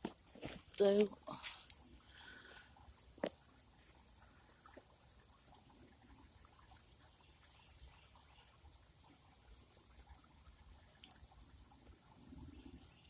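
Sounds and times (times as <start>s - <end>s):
water trickling in pond: 0.0s - 13.0s.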